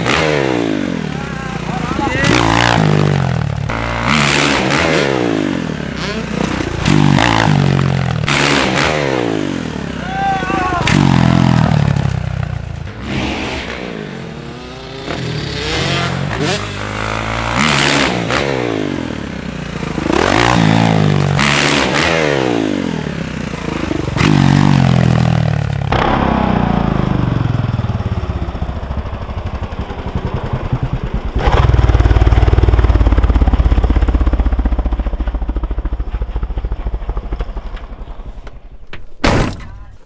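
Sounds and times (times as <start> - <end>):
motorbike engine revving: 0.0 - 38.0.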